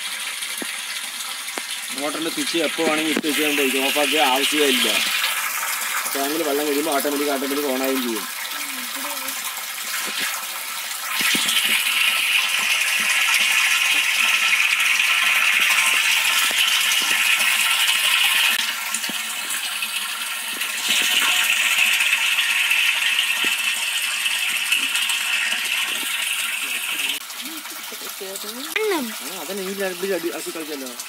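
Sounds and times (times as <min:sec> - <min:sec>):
water pouring into a tank: 0:00.0 - 0:31.0.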